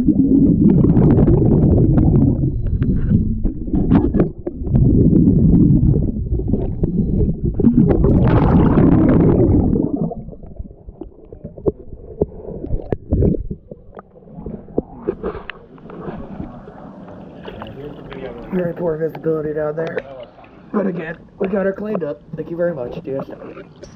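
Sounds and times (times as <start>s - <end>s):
water gurgling and sloshing: 0.0s - 23.9s.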